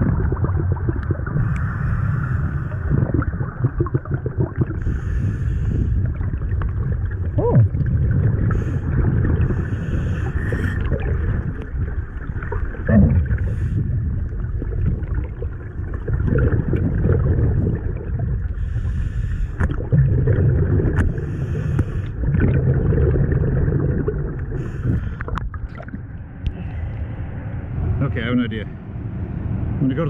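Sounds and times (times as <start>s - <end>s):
rumbling bubble exhalations: 0.0s - 18.6s, 19.5s - 26.9s.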